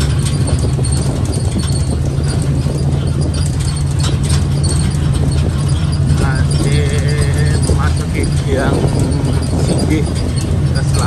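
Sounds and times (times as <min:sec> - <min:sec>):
motor tricycle engine drone: 0:00.0 - 0:11.0
steel cargo cage rattling: 0:00.0 - 0:11.0.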